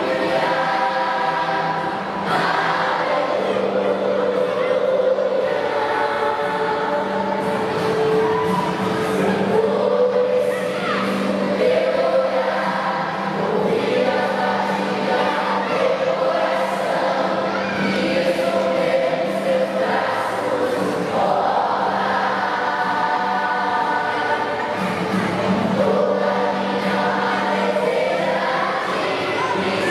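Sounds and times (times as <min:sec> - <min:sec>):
choir singing: 0:00.0 - 0:29.9.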